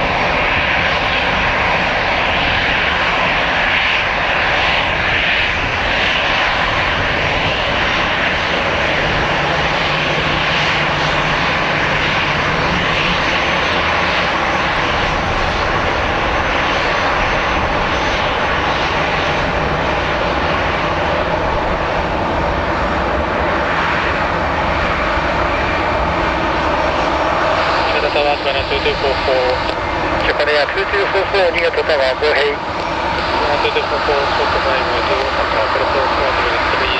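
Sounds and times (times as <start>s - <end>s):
jet engines idling: 0.0s - 36.9s.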